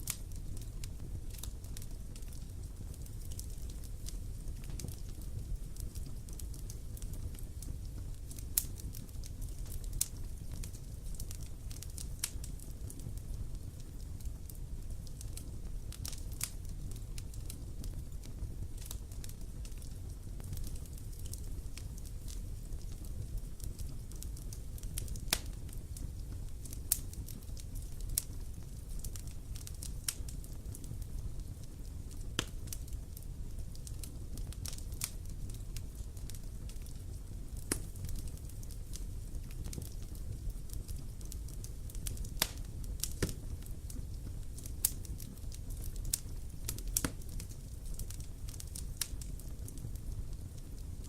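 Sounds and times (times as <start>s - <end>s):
campfire crackling and popping: 0.0s - 51.0s
low rumble of flame: 0.0s - 51.0s.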